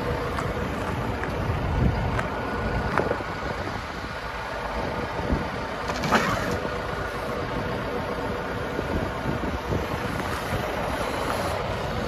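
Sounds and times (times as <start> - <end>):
diesel engine running: 0.0 - 12.0
faint hydraulic whine: 0.0 - 12.0.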